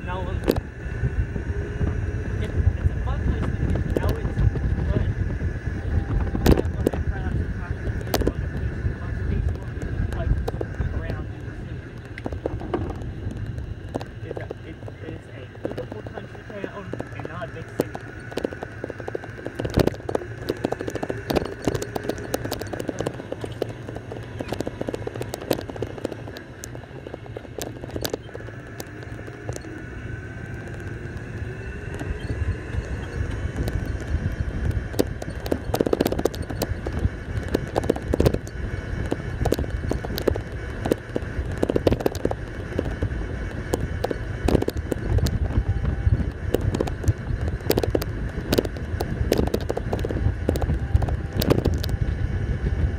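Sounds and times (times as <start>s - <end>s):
golf cart driving: 0.0s - 52.9s
small rattles and clicks: 0.0s - 52.9s.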